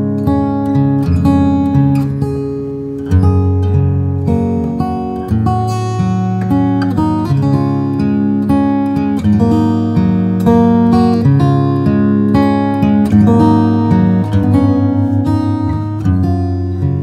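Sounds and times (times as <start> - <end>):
fingerpicked acoustic guitar: 0.0 - 17.0.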